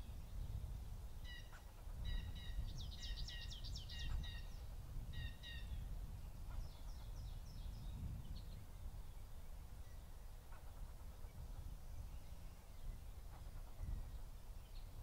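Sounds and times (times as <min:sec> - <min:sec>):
songbirds calling: 0:00.0 - 0:15.0.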